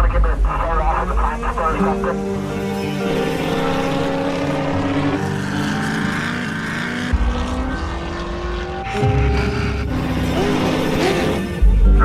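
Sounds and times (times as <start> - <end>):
race vehicle engine running: 0.0 - 12.0.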